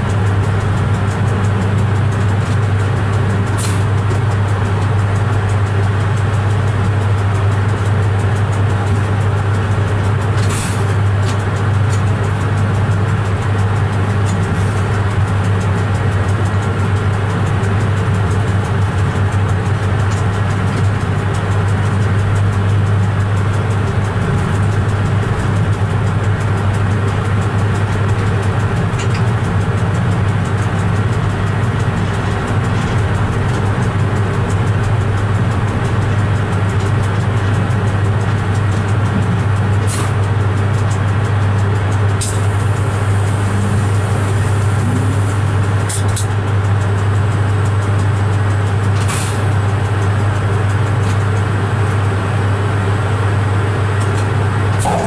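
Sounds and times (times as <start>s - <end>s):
train cab drone: 0.0s - 55.0s.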